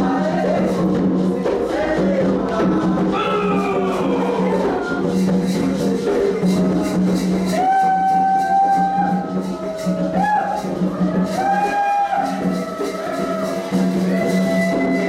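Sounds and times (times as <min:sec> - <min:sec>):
rattling percussion beat: 0:00.0 - 0:15.0
voices singing: 0:00.0 - 0:15.0.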